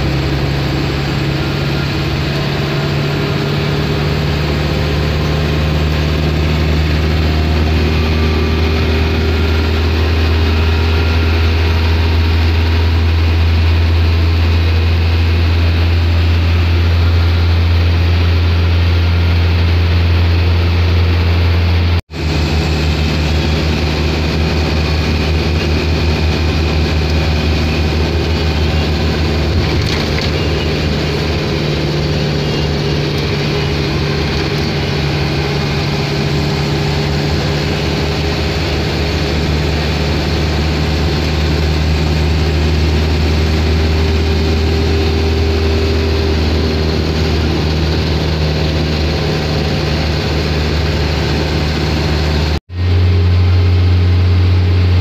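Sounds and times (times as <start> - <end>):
low engine drone: 0.0 - 55.0
road noise: 0.0 - 55.0.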